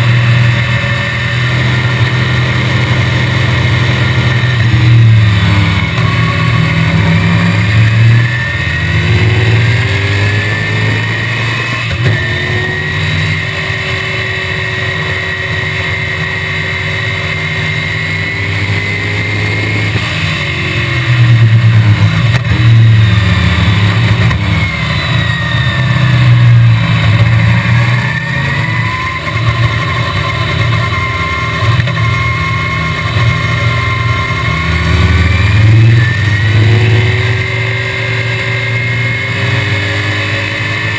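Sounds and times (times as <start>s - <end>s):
racing car engine at full load: 0.0s - 40.9s.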